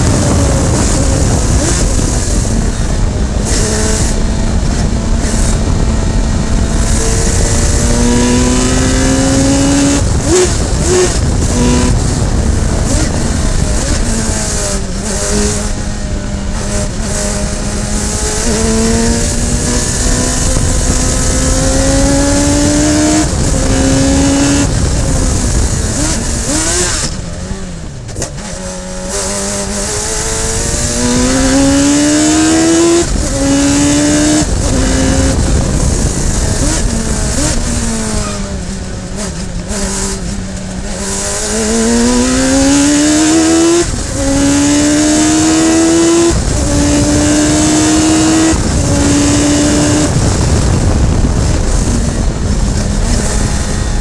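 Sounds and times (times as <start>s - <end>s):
racing car engine shifting gears: 0.0s - 54.0s.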